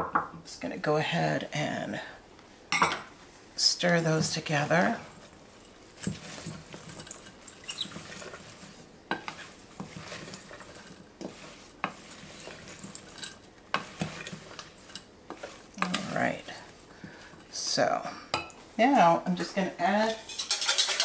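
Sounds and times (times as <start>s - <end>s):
spoon stirring wet salad: 3.6s - 21.0s.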